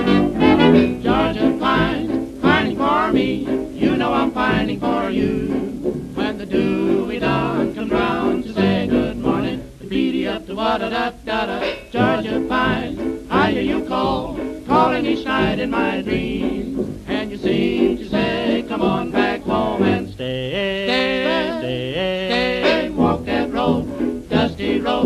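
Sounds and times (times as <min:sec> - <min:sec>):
jazz dance band on old record: 0:00.0 - 0:25.0.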